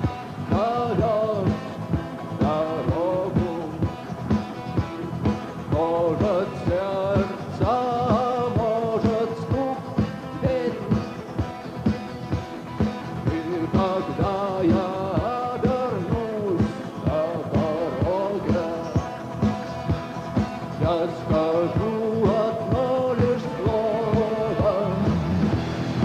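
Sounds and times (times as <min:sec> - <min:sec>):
rock lead melody with bending pitch: 0:00.0 - 0:26.0
steady drum beat: 0:00.0 - 0:26.0.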